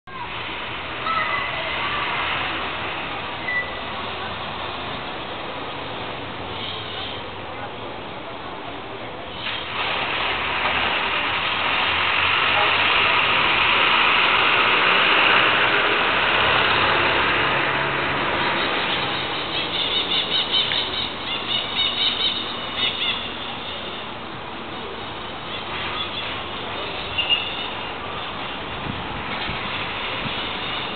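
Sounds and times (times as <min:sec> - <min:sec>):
traffic noise: 0:00.0 - 0:30.9.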